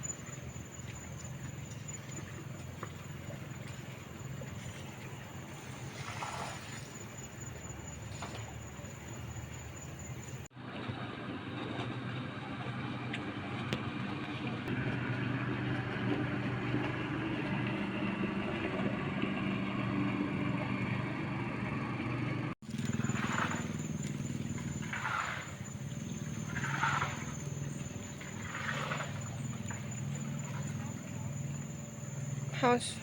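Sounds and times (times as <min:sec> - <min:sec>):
vehicle engine running: 0:00.0 - 0:10.5, 0:12.2 - 0:33.0.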